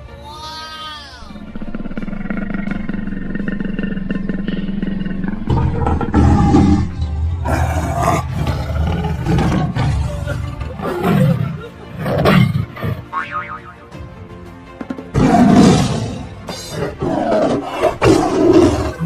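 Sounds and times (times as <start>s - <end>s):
background music with steady tones: 0.0s - 19.0s
tiger roaring: 1.3s - 13.1s, 15.1s - 19.0s.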